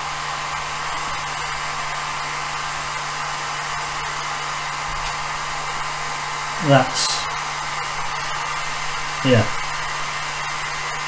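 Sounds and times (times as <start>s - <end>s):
electric fan whirring: 0.0s - 11.0s.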